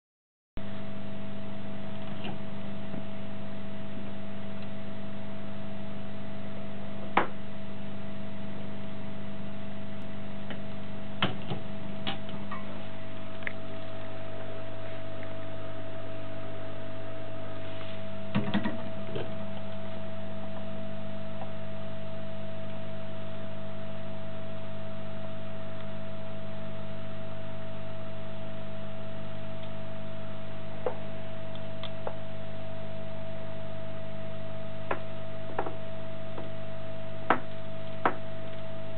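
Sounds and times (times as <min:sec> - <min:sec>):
steady electrical hum: 0:00.6 - 0:38.9.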